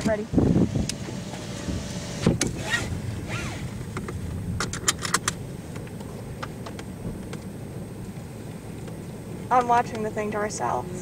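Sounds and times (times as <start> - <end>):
idling vehicle rumble: 0.0 - 11.0.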